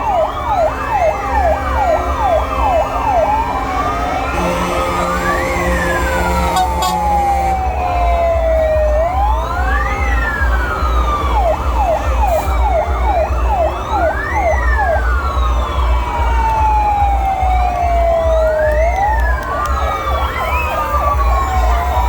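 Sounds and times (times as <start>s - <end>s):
fire truck sirens wailing: 0.0s - 22.0s.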